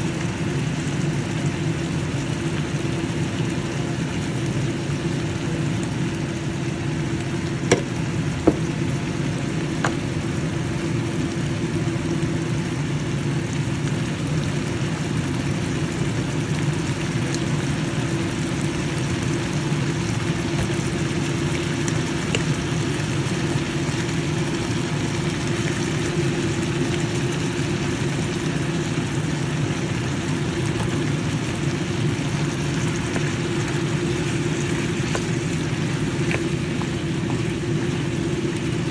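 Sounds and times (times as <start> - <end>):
whirring machine hum: 0.0 - 38.9.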